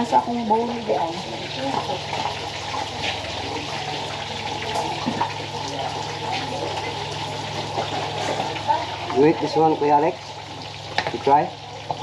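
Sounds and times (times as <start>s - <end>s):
kitchen hiss with crackles: 0.0s - 12.0s.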